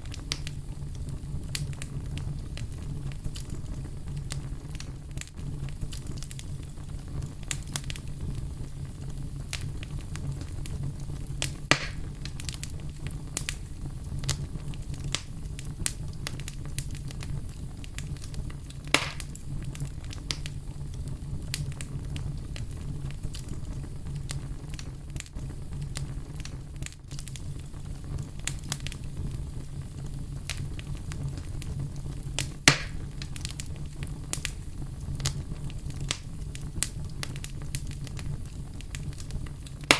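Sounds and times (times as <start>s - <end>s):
fire crackling: 0.0s - 39.9s
loud fire pops: 0.0s - 39.9s.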